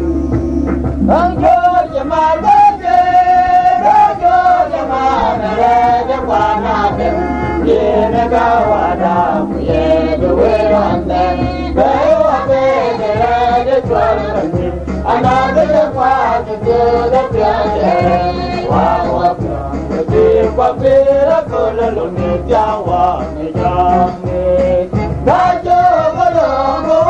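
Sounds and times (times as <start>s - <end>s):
instrumental accompaniment with bass: 0.0s - 27.0s
voices singing gospel song: 0.0s - 27.0s.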